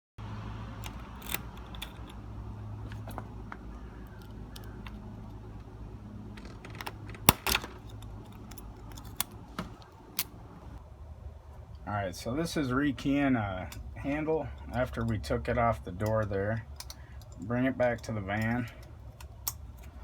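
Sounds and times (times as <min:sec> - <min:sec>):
keys and lock parts clicking: 0:00.8 - 0:10.5, 0:13.6 - 0:20.0.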